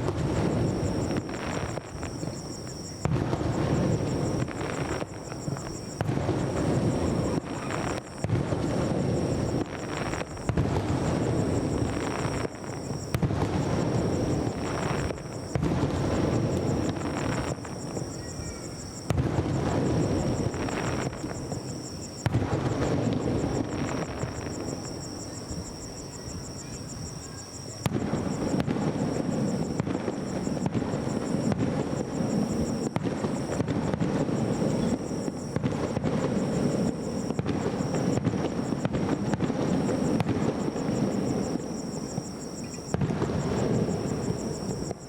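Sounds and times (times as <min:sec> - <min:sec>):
firework shells booming: 0:00.0 - 0:27.1, 0:27.7 - 0:45.0
crackling firework bursts: 0:00.0 - 0:45.0.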